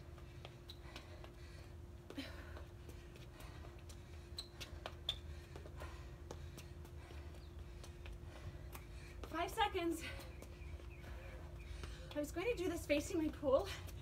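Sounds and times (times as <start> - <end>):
shoes tapping on concrete: 0.0 - 14.0.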